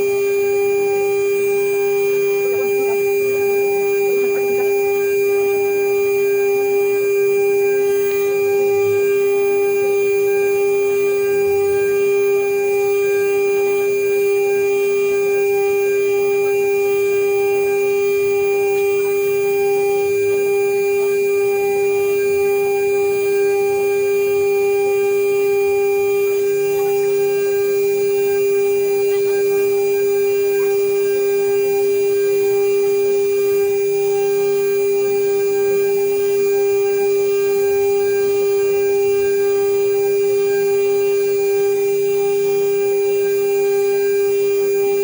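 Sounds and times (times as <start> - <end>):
router spindle whine: 0.0 - 45.0.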